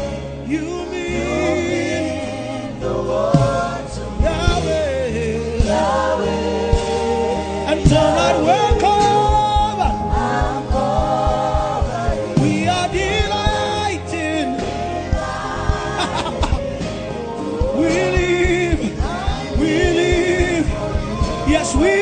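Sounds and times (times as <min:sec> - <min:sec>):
voices singing held notes: 0:00.0 - 0:22.0
band with steady beat: 0:03.2 - 0:22.0.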